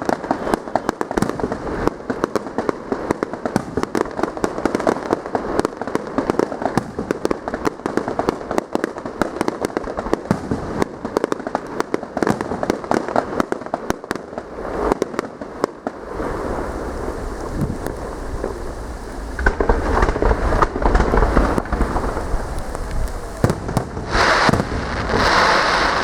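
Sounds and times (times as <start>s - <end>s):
fireworks crackling bangs: 0.0s - 26.0s.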